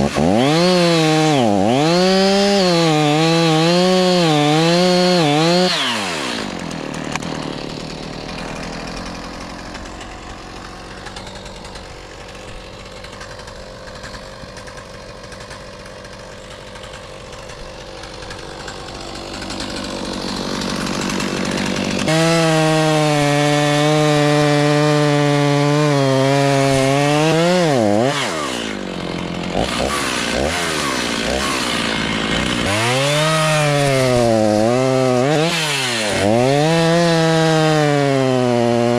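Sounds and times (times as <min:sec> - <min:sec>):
chainsaw engine running: 0:00.0 - 0:38.9.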